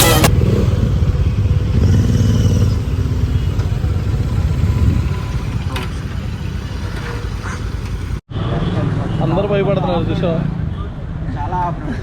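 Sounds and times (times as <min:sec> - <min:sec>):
motorcycle engines rumbling: 0:00.0 - 0:11.8.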